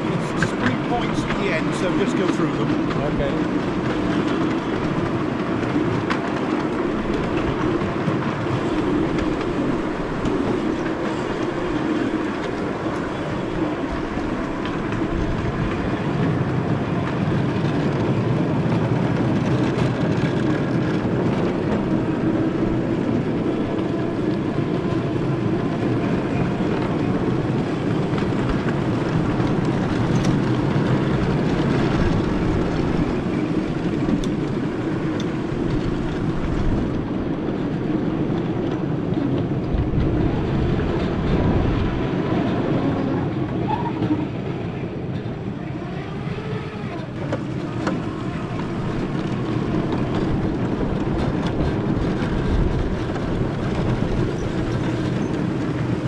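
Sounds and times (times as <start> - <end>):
miniature train rumbling on track: 0.0 - 56.0.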